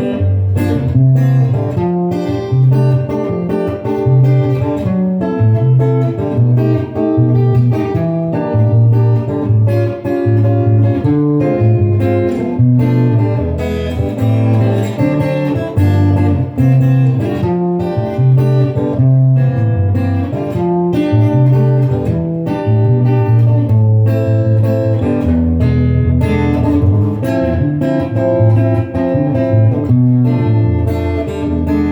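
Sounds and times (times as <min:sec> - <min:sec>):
acoustic guitar plucked and strummed: 0:00.0 - 0:31.9.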